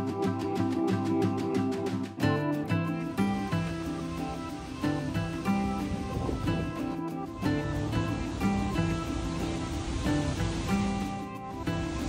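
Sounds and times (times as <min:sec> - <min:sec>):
mellow instrumental with plucked guitar: 0:00.0 - 0:12.0.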